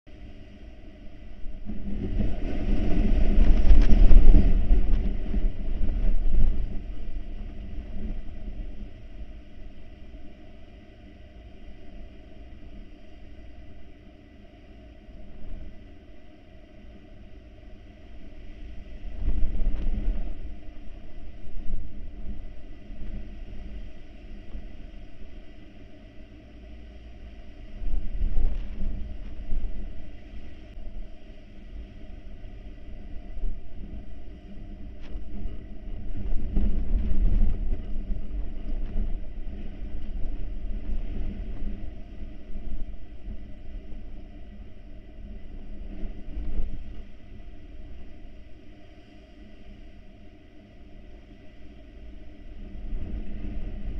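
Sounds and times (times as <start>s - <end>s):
wind buffeting microphone: 0.1s - 53.9s.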